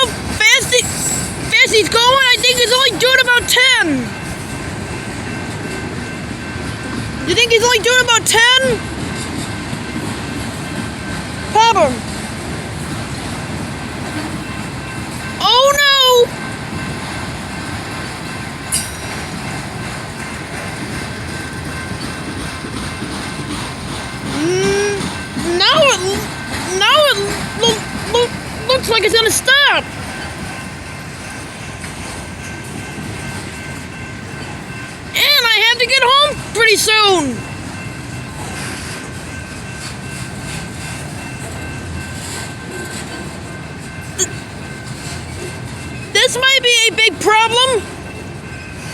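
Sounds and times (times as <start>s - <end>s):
train cars rumbling past: 0.0s - 48.9s.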